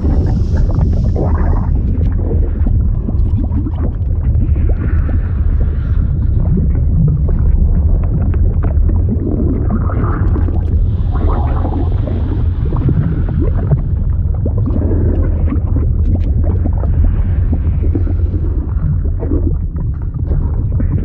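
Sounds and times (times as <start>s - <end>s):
deep liquid rumble with pops: 0.0s - 21.0s.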